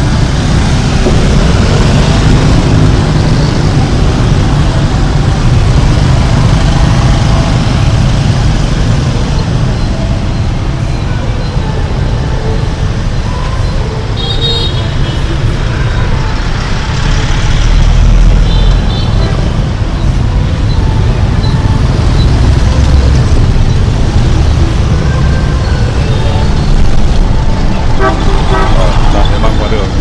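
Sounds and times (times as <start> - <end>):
cars and bus passing: 0.0 - 30.0
motorbike and scooter engines: 0.0 - 30.0.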